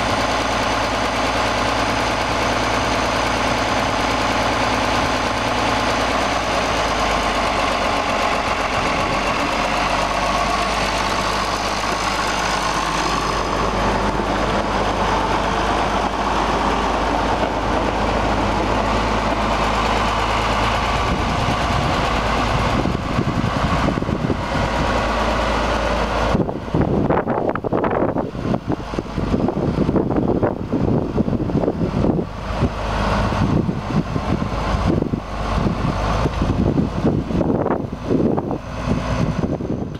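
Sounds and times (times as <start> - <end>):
tractor engine running: 0.0 - 39.9
gusty wind on microphone: 2.5 - 39.9.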